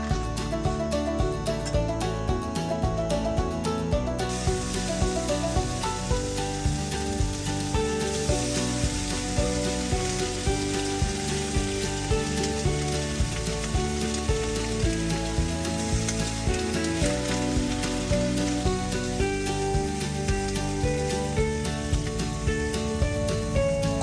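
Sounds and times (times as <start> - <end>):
background music with steady beat: 0.0 - 24.0
food sizzling over fire: 0.0 - 24.0.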